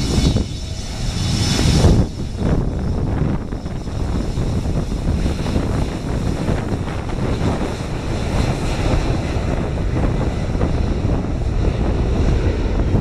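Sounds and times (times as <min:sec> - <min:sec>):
jet engines at takeoff thrust: 0:00.0 - 0:13.0
wind on microphone: 0:00.0 - 0:13.0.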